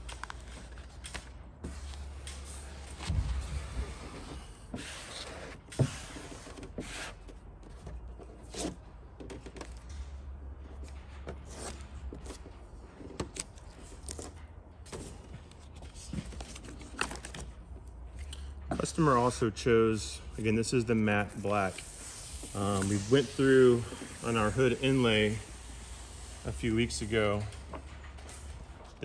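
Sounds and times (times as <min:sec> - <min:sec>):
tape and paper rustling: 0:00.0 - 0:19.4, 0:21.2 - 0:29.0.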